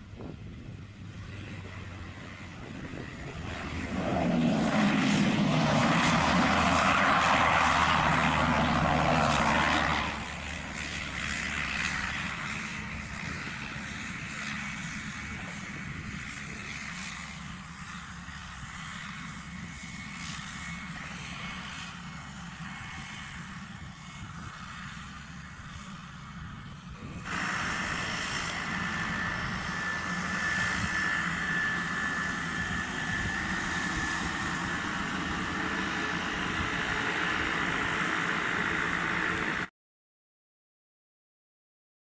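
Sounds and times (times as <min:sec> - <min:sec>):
turboprop engine and propeller: 0:00.0 - 0:39.7.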